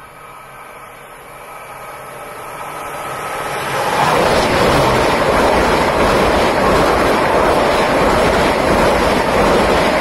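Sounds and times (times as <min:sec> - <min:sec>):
train wheel and air rushing: 0:00.0 - 0:10.0.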